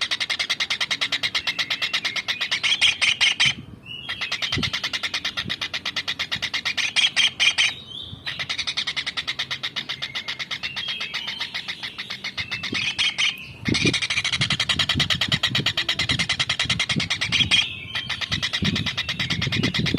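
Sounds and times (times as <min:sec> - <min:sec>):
kingfisher chattering: 0:00.0 - 0:19.9.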